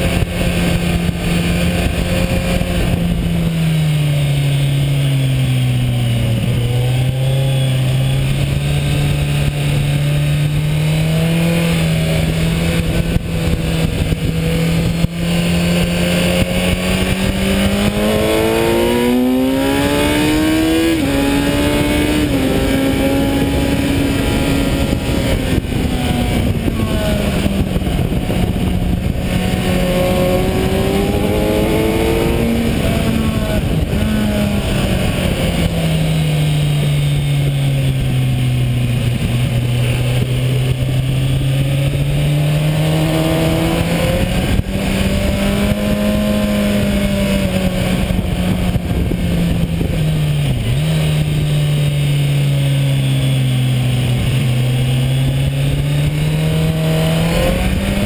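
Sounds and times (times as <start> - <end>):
motorcycle engine at speed: 0.0 - 58.0
steady rushing noise: 0.0 - 58.0.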